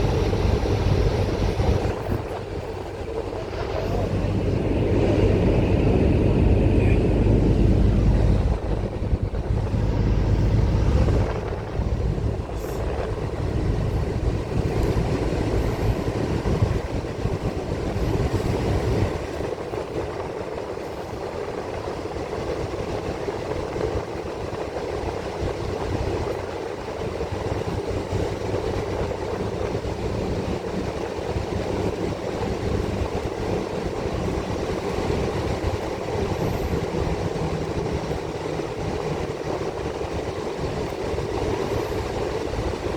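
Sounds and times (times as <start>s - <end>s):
bus engine and road noise: 0.0s - 42.9s.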